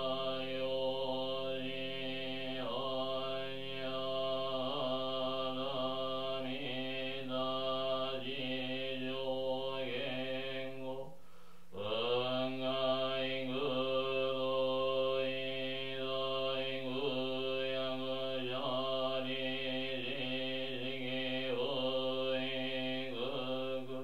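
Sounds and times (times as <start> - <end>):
man chanting: 0.0 - 11.1, 11.8 - 24.0.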